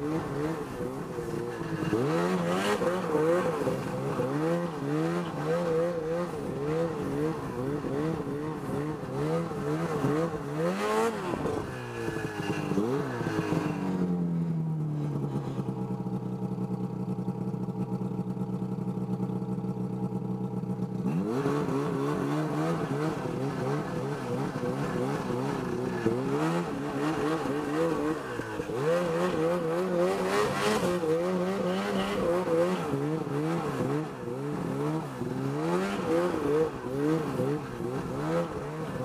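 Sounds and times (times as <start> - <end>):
snowmobile engine revving: 0.0 - 15.8, 21.0 - 39.0.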